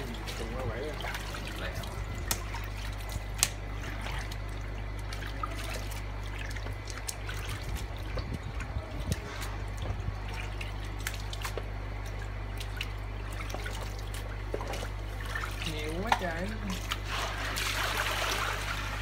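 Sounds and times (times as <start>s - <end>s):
water splashing in plastic basin: 0.0s - 19.0s.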